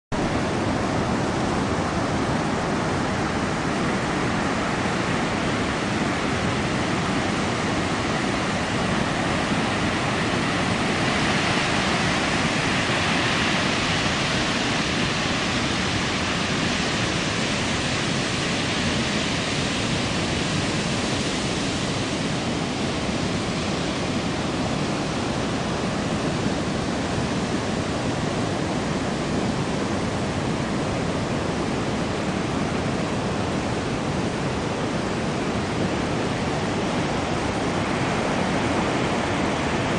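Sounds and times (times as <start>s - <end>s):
heavy surf breaking on beach: 0.1s - 39.9s.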